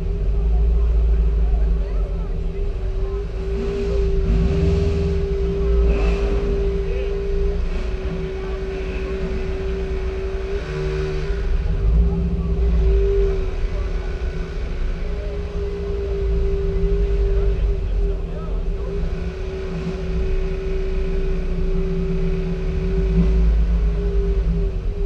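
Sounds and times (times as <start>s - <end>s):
car engine rumbling: 0.0s - 25.0s
faint crowd voices: 0.0s - 25.0s.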